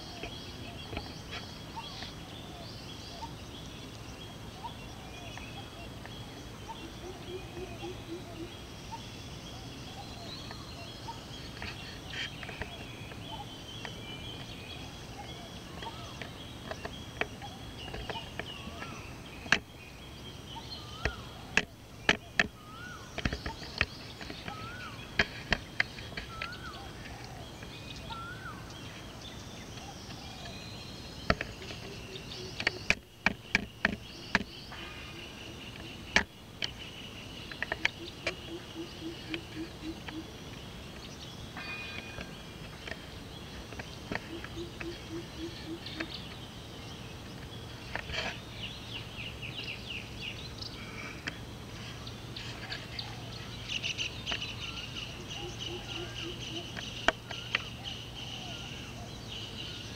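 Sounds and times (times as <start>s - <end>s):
birds calling and chirping: 0.0s - 59.9s.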